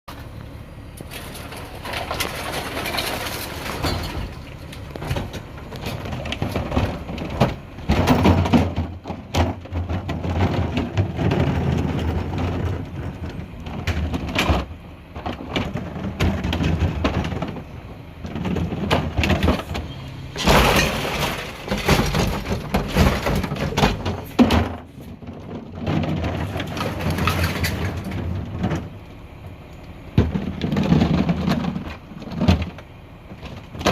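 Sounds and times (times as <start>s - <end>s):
diesel engine humming: 0.1s - 33.9s
recyclables crashing into hopper: 1.0s - 29.0s, 30.1s - 33.9s.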